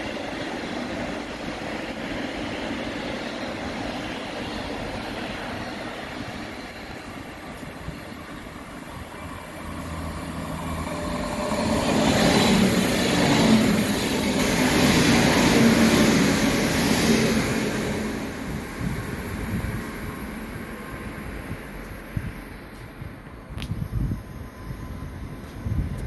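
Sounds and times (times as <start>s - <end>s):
train passing close by: 0.0s - 26.0s.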